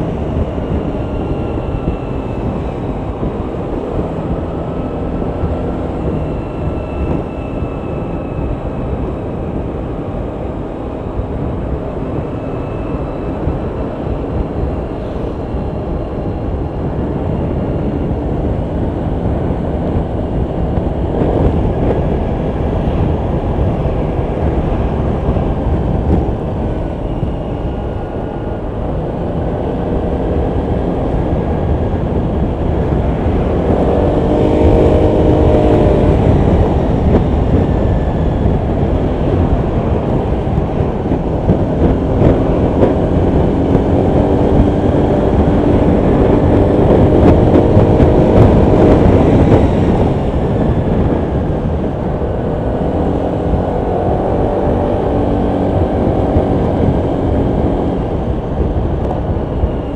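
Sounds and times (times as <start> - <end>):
road rumble: 0.0 - 59.9
wind noise: 0.0 - 59.9.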